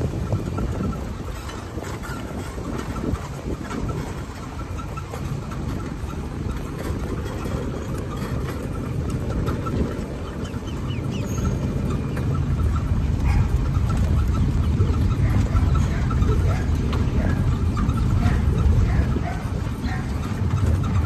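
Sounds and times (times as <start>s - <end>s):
golf cart rumbling: 0.0s - 21.0s.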